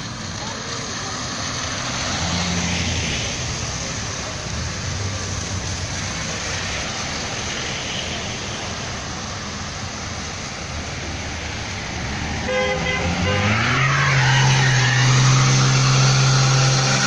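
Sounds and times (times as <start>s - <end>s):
street noise hiss: 0.0s - 17.0s.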